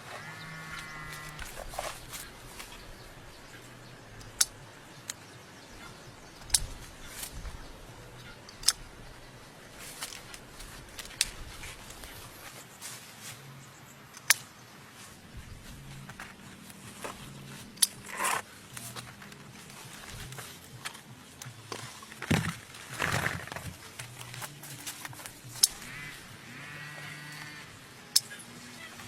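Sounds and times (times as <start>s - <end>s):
faint steady background noise: 0.0s - 29.0s.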